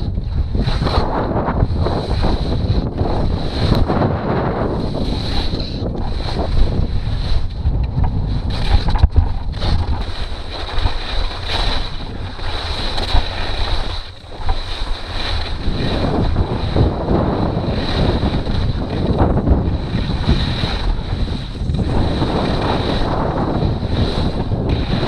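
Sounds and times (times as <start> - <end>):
wind buffeting microphone: 0.0 - 25.0
skis scraping on hard snow: 0.6 - 7.5, 8.4 - 25.0.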